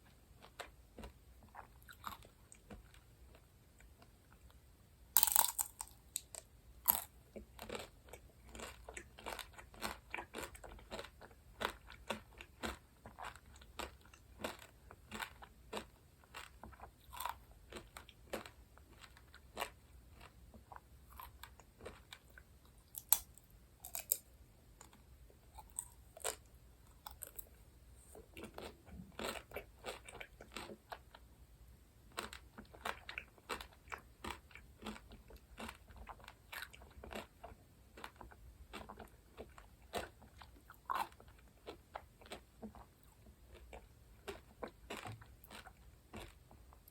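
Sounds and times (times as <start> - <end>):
crunchy bites and chewing: 0.4 - 3.9, 5.2 - 31.2, 32.1 - 46.9.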